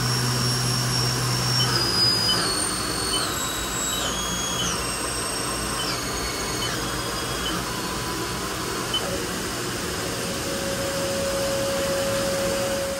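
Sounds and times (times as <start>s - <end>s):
high machine whine: 0.0s - 12.9s
machining center whirring: 0.0s - 12.9s.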